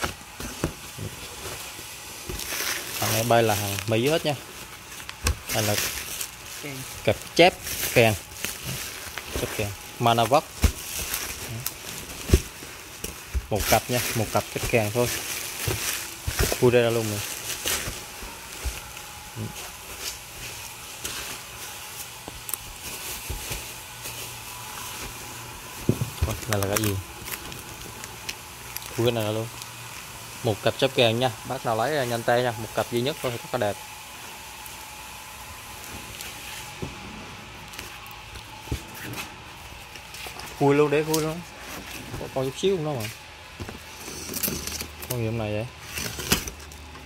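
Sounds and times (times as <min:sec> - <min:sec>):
steady hiss: 0:00.0 - 0:46.4
bubble wrap rustling: 0:00.0 - 0:47.0
steady low hum: 0:00.0 - 0:47.0.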